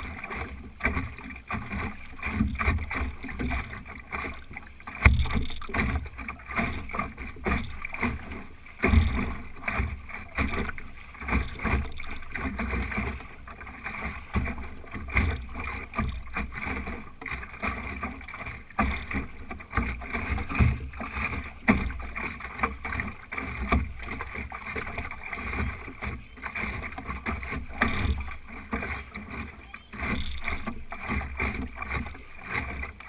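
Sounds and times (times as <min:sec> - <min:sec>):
water slapping against hull: 0:00.0 - 0:33.0.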